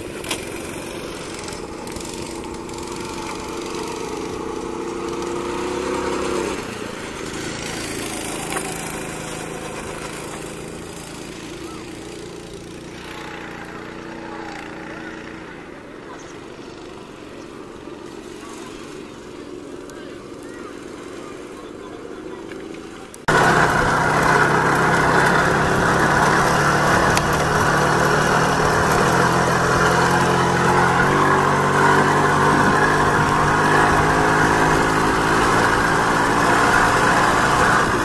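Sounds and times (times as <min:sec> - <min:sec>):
go-kart engine running: 0:00.0 - 0:38.0.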